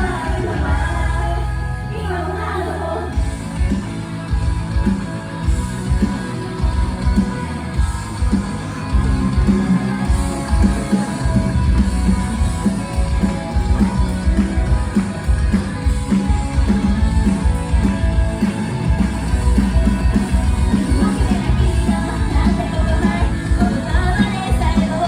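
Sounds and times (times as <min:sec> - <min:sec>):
drum kit: 0:00.0 - 0:01.2, 0:03.2 - 0:25.0
electric guitar: 0:00.0 - 0:25.0.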